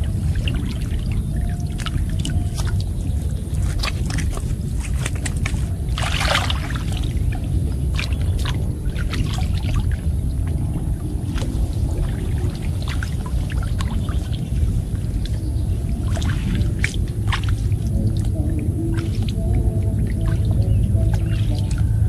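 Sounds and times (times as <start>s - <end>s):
low rumble: 0.0s - 22.0s
water sloshing and splashing: 0.0s - 22.0s.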